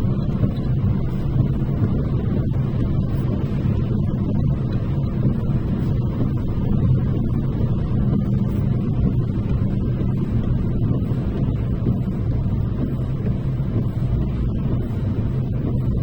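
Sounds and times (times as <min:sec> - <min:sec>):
car driving inside cabin: 0:00.0 - 0:16.0.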